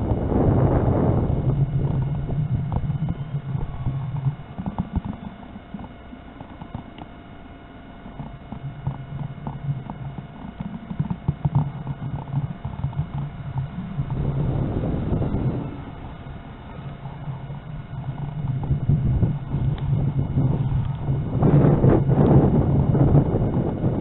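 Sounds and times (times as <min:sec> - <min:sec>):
wind buffeting microphone: 0:00.0 - 0:07.1, 0:08.1 - 0:24.0
model plane propeller droning: 0:00.0 - 0:24.0.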